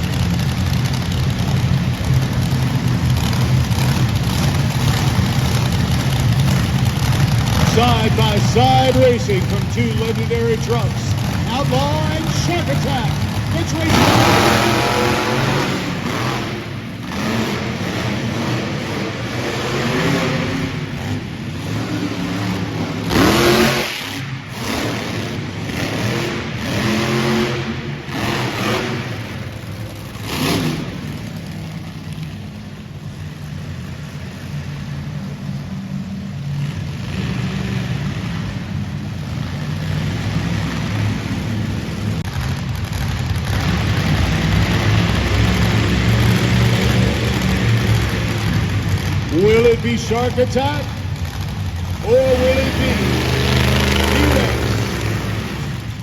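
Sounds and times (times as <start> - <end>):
monster truck engines revving: 0.0 - 56.0.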